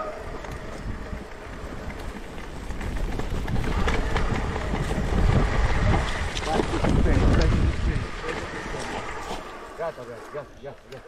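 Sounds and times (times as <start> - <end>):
wind on microphone: 0.0 - 9.5
bike rattling and clicking: 0.0 - 11.0
bike tyres rolling over rough ground: 0.0 - 11.0.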